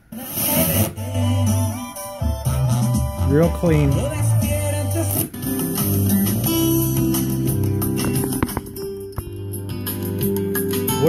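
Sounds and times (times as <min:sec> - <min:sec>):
guitar music on radio: 0:00.0 - 0:11.0.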